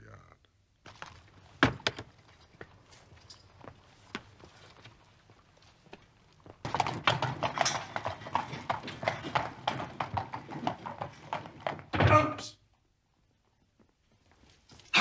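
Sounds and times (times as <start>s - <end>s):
horse hooves clip-clopping: 0.9s - 14.9s.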